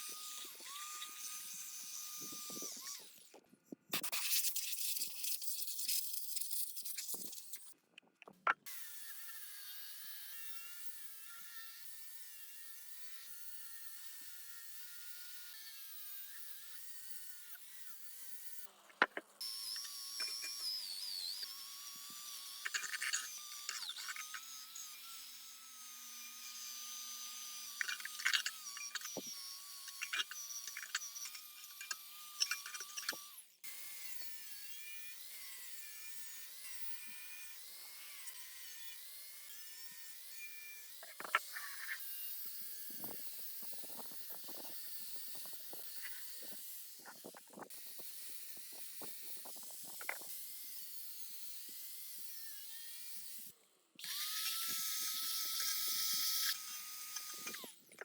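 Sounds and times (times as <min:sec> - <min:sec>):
high-speed power tool whine: 0:00.0 - 0:03.4, 0:08.7 - 0:58.0.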